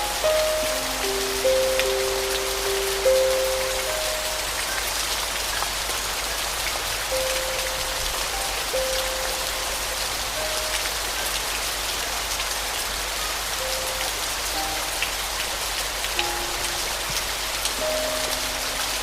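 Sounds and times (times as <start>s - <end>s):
soft piano notes: 0.0s - 12.4s, 13.1s - 19.0s
steady rain falling: 0.0s - 19.0s.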